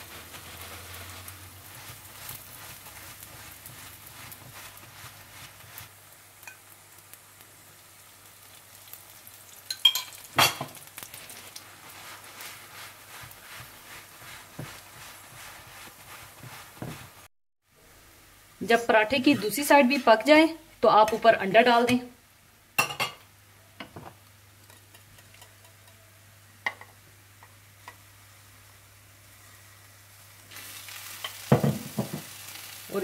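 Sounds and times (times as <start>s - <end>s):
fat sizzling and crackling: 0.0s - 22.0s, 22.8s - 33.0s.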